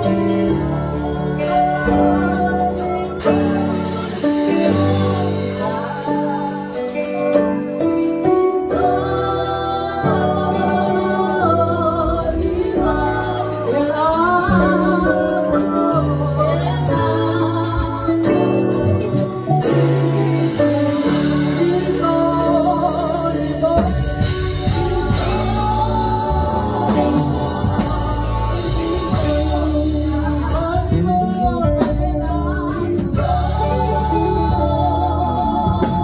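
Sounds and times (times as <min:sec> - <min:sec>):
drum kit: 0:00.0 - 0:36.0
electric bass guitar: 0:00.0 - 0:36.0
electronic keyboards: 0:00.0 - 0:36.0
woman singing: 0:00.0 - 0:36.0.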